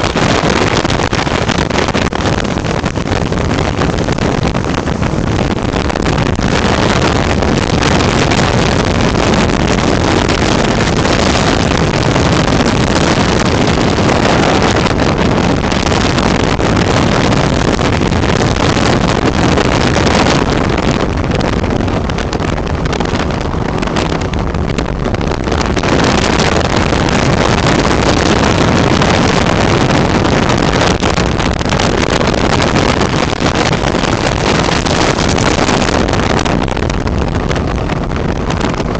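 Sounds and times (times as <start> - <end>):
heavy wind rush: 0.0 - 38.9.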